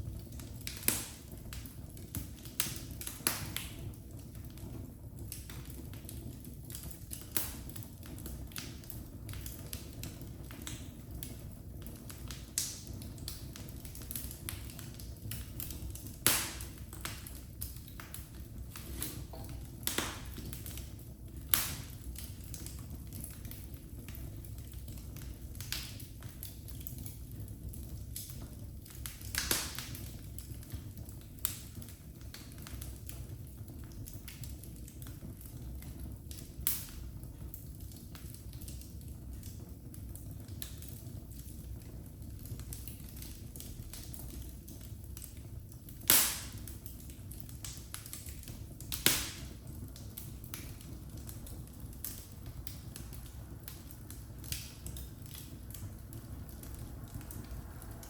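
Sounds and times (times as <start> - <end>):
fire popping: 0.0 - 58.0
fire rumbling: 0.0 - 58.0.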